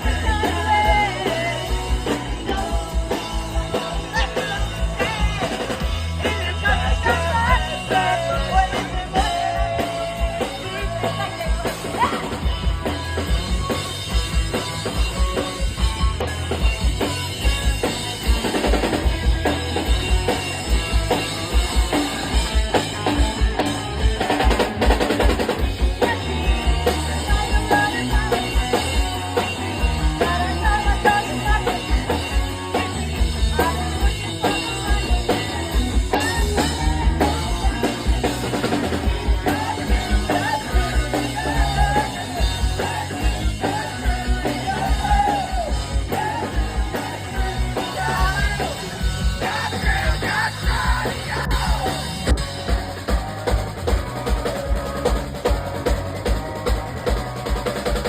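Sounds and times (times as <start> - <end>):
drum kit beat: 0.0 - 58.0
guitar and bass: 0.0 - 58.0.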